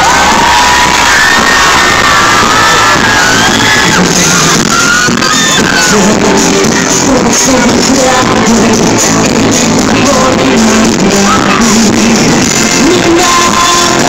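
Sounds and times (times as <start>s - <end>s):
live pop music with singing: 0.0s - 14.0s.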